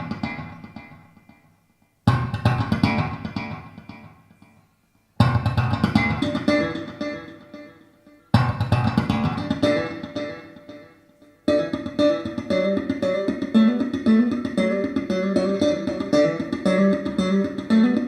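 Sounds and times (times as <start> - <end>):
plucked-string music on loudspeakers: 0.0 - 18.0.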